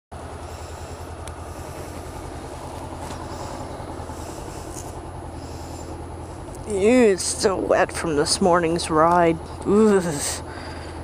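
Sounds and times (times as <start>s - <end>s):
motorcycle engine idling: 0.2s - 11.0s.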